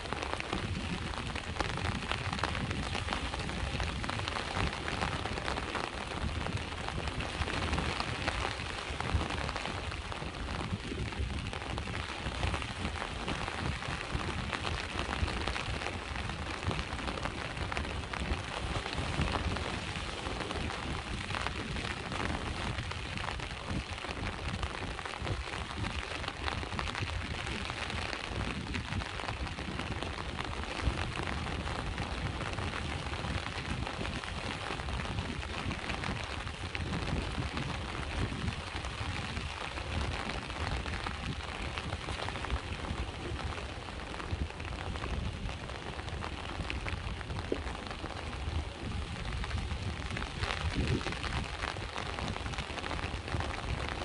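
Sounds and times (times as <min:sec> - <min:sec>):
rain on a hard surface: 0:00.0 - 0:54.0.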